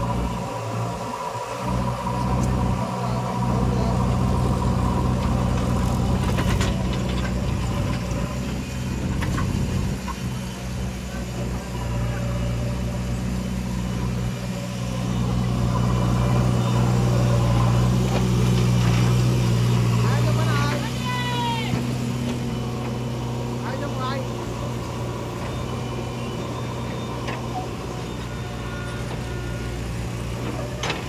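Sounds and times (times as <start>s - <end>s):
diesel engines running: 0.0s - 31.0s.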